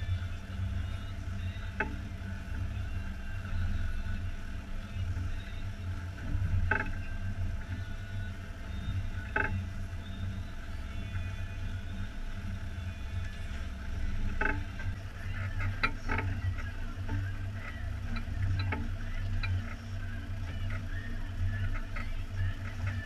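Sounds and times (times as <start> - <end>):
outboard motors idling: 0.0 - 23.0.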